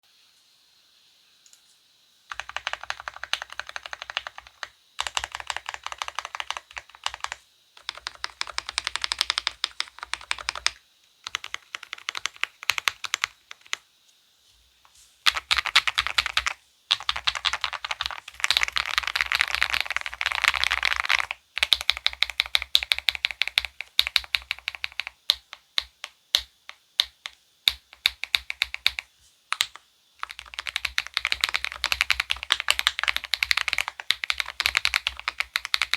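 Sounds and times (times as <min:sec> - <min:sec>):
mechanical keyboard typing: 0:02.3 - 0:13.8, 0:15.3 - 0:35.9.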